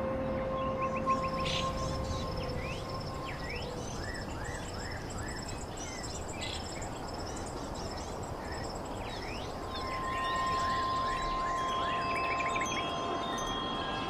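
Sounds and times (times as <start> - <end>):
birds chirping: 0.2 - 14.0
insects trilling: 1.0 - 14.0.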